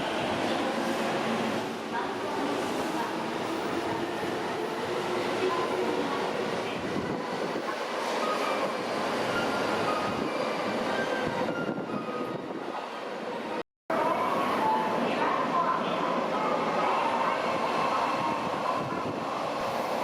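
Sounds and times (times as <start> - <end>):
subway train rumble: 0.0 - 20.0.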